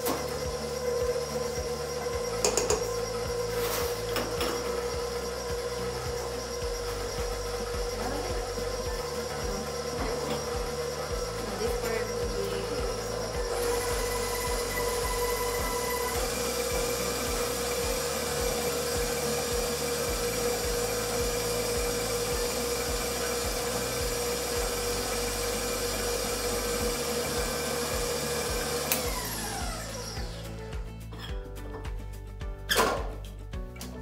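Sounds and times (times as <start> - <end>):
stand mixer motor whining: 0.0 - 30.6.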